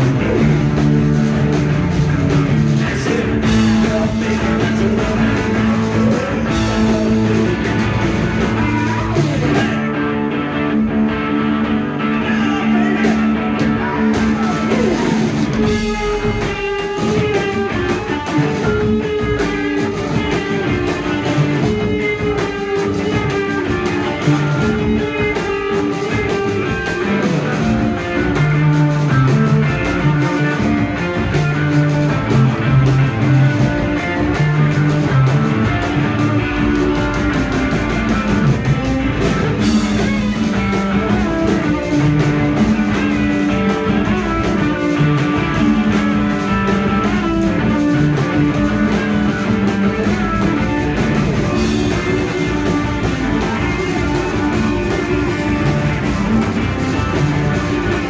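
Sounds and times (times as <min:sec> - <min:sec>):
live punk blues band playing: 0:00.0 - 0:58.0
sliding guitar notes: 0:00.0 - 0:58.0.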